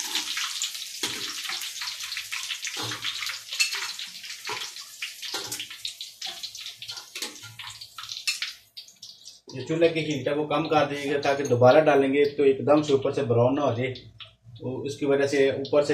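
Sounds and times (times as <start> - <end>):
hot oil sizzling and crackling: 0.0 - 11.5, 13.8 - 15.9.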